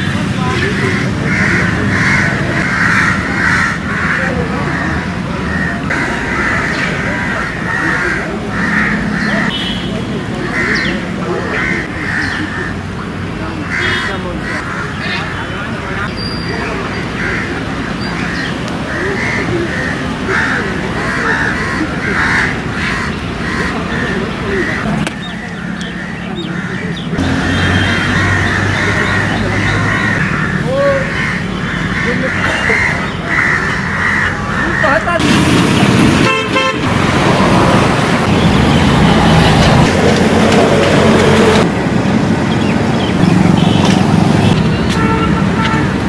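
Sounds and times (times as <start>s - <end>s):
birds calling: 0.0s - 46.0s
heavy traffic rumble: 0.0s - 46.0s.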